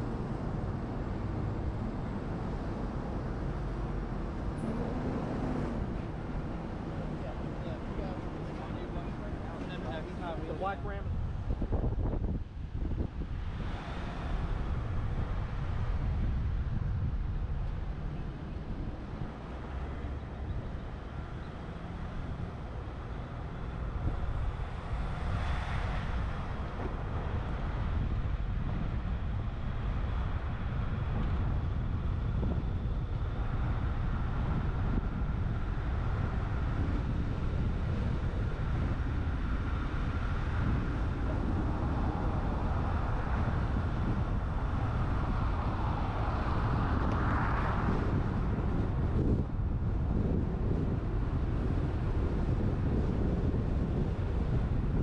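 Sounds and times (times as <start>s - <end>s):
road and engine noise: 0.0s - 55.0s
wind rushing over camera: 0.0s - 55.0s.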